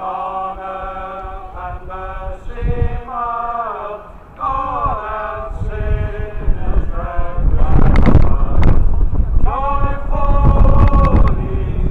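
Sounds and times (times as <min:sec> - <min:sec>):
man chanting: 0:00.0 - 0:11.9
wind rumbling on microphone: 0:00.0 - 0:11.9.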